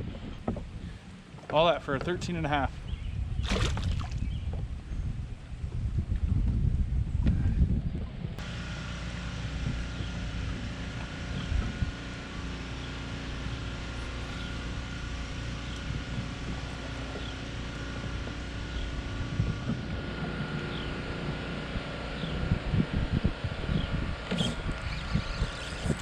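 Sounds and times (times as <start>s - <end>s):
motor hum: 0.0s - 26.0s.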